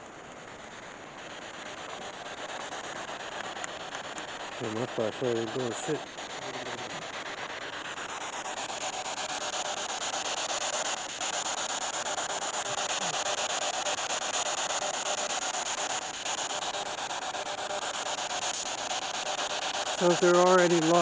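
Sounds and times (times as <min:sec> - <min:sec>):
fluttering radio static hiss: 0:00.0 - 0:21.0.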